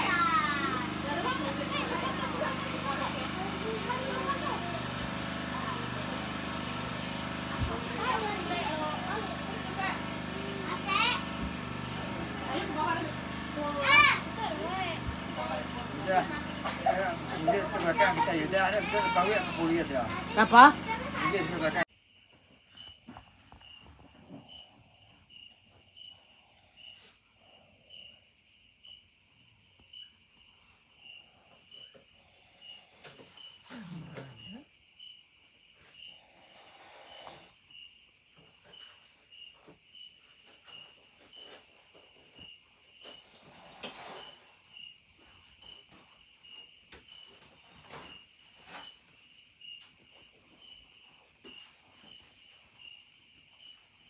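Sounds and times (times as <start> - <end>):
crickets chirping: 0.0 - 54.0
insects droning: 0.0 - 54.0.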